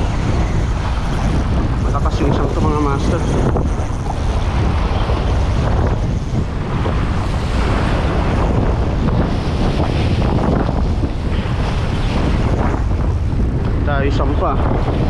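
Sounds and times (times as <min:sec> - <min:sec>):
sea surf washing: 0:00.0 - 0:15.0
strong wind buffeting microphone: 0:00.0 - 0:15.0.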